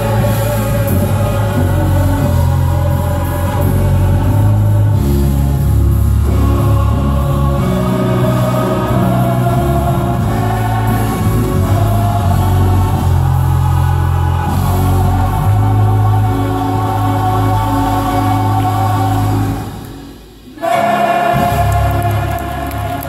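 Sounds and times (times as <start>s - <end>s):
choir singing: 0.0s - 23.0s
piano accompaniment: 0.0s - 23.0s.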